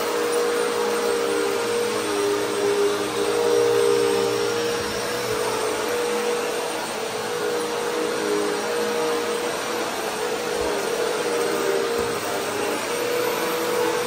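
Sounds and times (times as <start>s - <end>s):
vacuum cleaner running on carpet: 0.0s - 14.0s.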